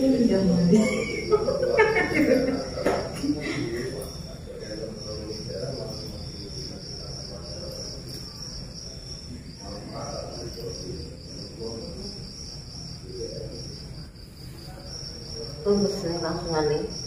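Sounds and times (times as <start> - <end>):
faint murmuring voices: 0.0 - 17.0
high-pitched insect trill: 0.0 - 17.0.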